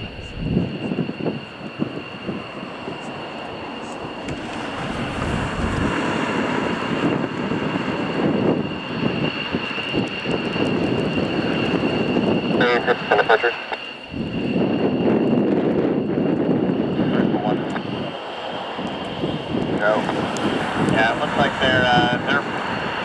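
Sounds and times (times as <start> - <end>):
jet engines whining: 0.0 - 23.0.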